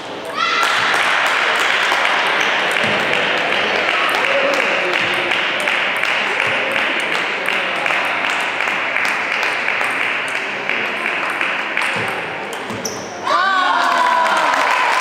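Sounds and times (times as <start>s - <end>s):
sports hall noise: 0.0s - 15.0s.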